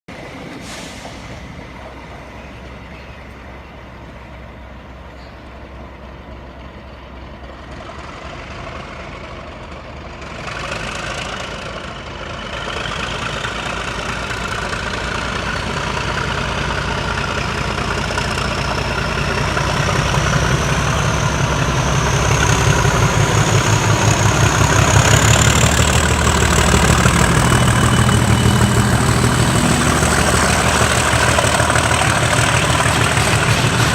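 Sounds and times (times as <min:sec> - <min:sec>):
diesel locomotive engine rumble: 0:00.1 - 0:33.9.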